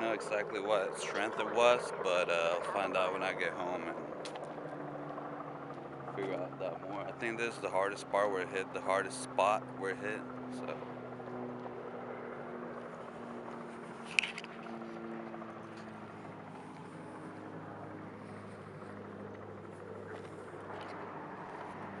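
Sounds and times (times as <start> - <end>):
vehicle engine running: 2.6 - 22.0.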